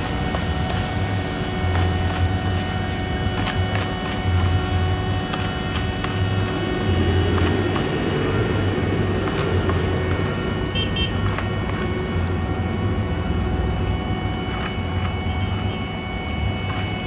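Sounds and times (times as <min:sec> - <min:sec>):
diesel engine rumble: 0:00.0 - 0:17.0
high machine whine: 0:00.0 - 0:17.0.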